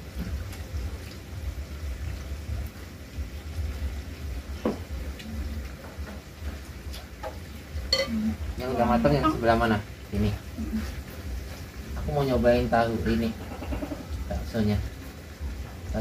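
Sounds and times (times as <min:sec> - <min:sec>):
food sizzling on grill pan: 0:00.0 - 0:16.0.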